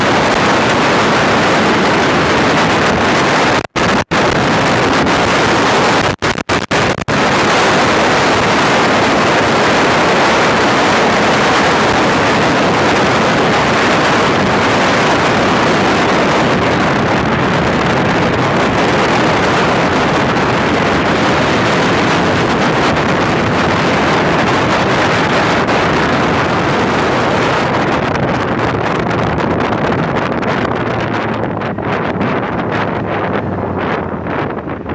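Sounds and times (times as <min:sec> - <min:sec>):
motorcycle running: 0:00.0 - 0:34.9
wind rushing over microphone: 0:00.0 - 0:34.9.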